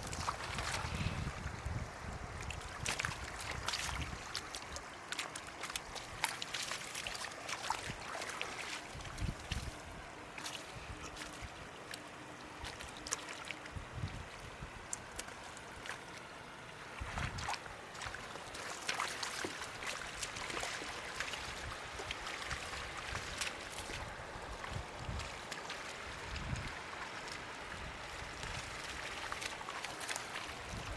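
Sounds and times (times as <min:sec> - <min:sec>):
shallow water splashing: 0:00.0 - 0:30.9.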